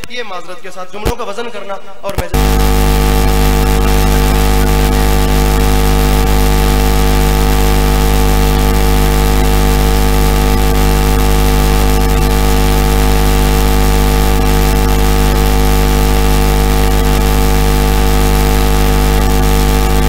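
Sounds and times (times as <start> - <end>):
loud steady layered hum: 2.4 - 20.0.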